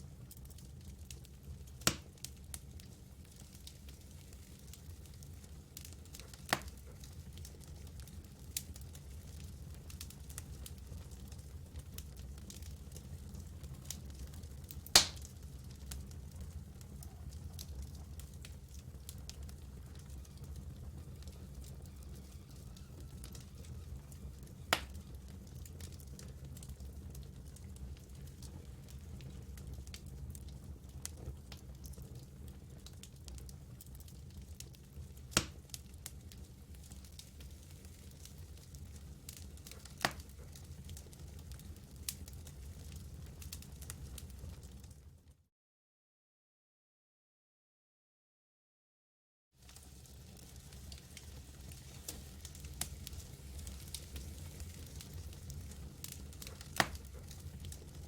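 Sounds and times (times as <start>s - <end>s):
campfire crackling: 0.0s - 44.8s, 49.6s - 58.0s.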